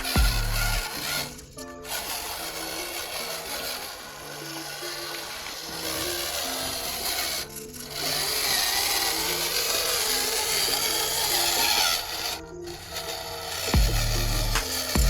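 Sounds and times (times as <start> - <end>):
background music: 0.0 - 15.0
tool scraping and rasping: 0.0 - 15.0.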